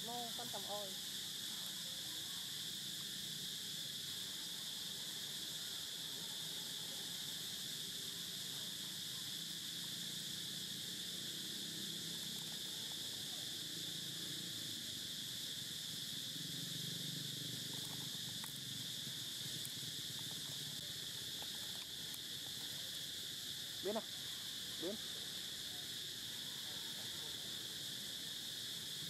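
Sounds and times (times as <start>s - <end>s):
insect chorus buzzing: 0.0s - 29.0s.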